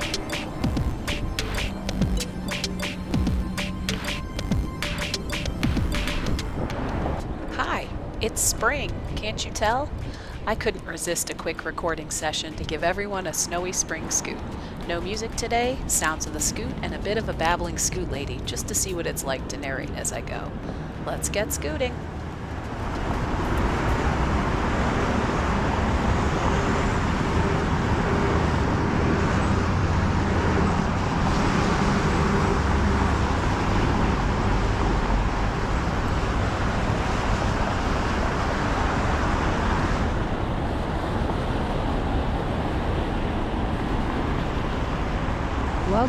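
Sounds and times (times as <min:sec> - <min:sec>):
scooter road noise: 0:05.6 - 0:46.0.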